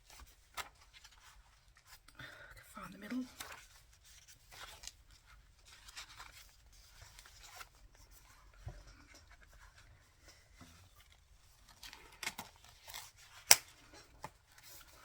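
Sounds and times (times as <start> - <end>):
paper pages rustling: 0.0 - 2.1, 3.1 - 15.0.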